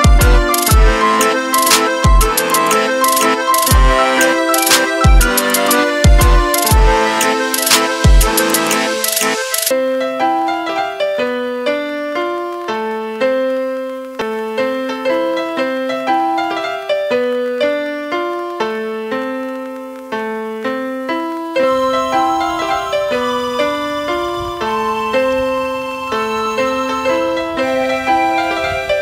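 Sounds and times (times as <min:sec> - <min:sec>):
fuller music accompaniment: 0:00.0 - 0:29.0
piano melody: 0:00.0 - 0:29.0.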